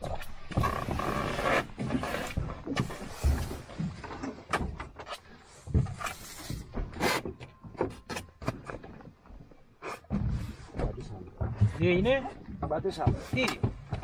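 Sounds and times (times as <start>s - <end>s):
gear handling knocks and rustles: 1.7s - 14.0s.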